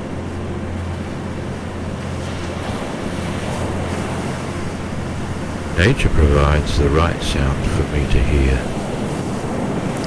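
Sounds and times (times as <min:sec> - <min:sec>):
low steady drone: 0:00.0 - 0:10.0
ocean surf washing on beach: 0:00.0 - 0:10.0.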